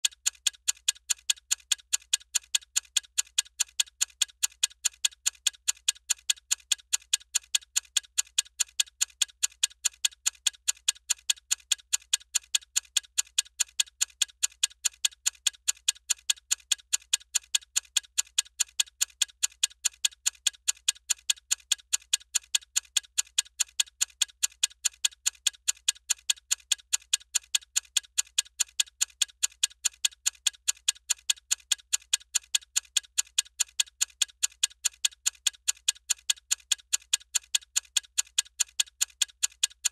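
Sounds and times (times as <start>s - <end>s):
timer ticking: 0.0s - 39.9s.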